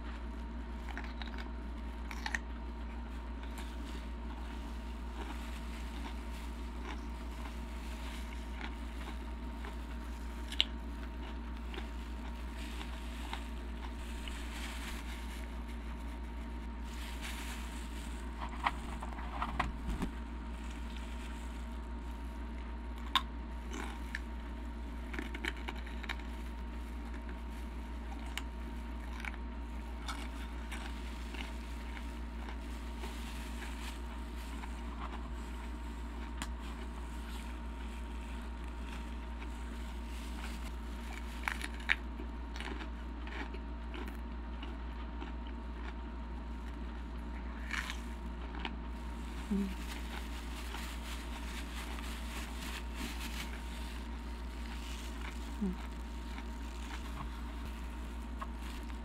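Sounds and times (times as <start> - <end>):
crunchy chewing: 0.0 - 59.0
low hum: 0.0 - 59.0.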